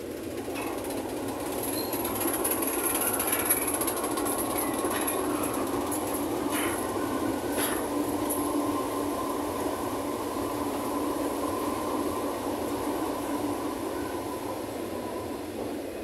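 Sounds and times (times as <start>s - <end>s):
diesel locomotive engines running: 0.0s - 16.0s
wheels rumbling on rails: 0.0s - 16.0s.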